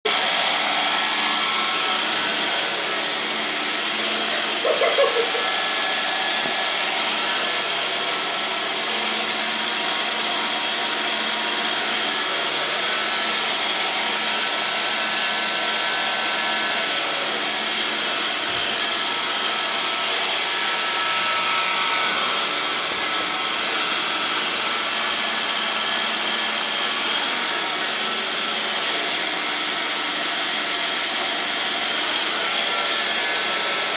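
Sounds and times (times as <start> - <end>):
robot vacuum cleaner whirring: 0.1 - 33.9.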